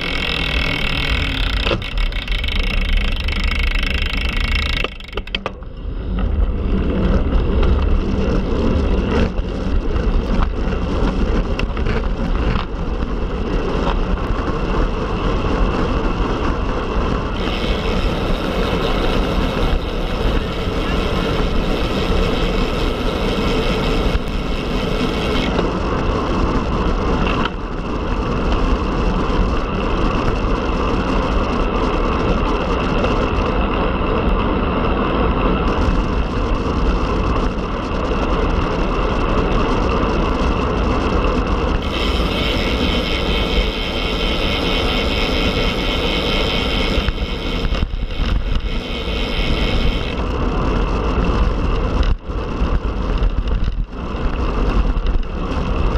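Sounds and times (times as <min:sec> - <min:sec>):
road noise from bike: 0:00.0 - 0:55.9
wind rush: 0:05.6 - 0:55.9.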